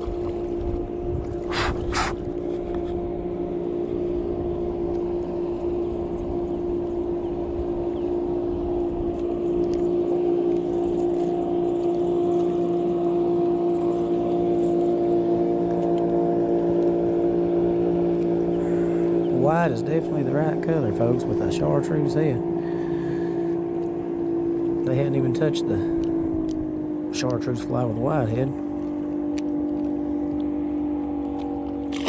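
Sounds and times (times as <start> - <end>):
motorboat engine droning: 0.0 - 32.0.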